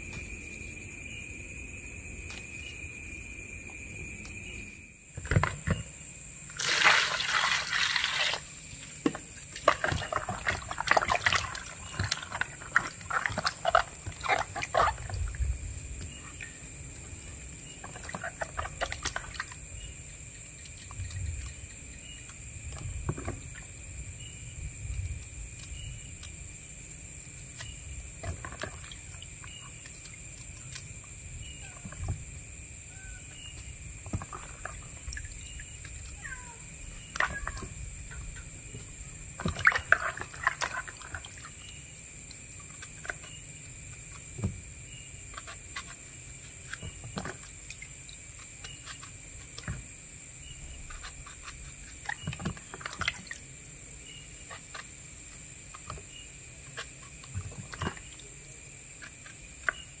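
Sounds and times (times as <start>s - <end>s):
high insect trill: 0.0s - 60.0s
water splashing in a plastic basin: 6.5s - 25.9s, 27.4s - 60.0s.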